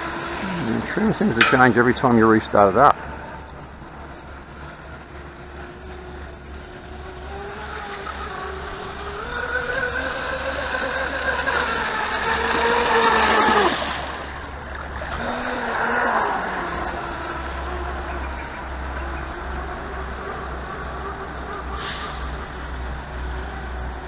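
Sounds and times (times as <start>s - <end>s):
rc boat electric motor whining: 0.0s - 24.0s.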